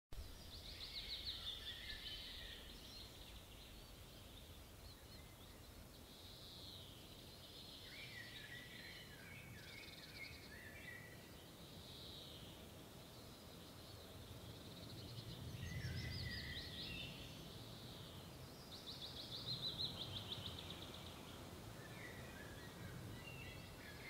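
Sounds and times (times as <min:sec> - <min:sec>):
songbirds chirping and trilling: 0:00.2 - 0:24.0.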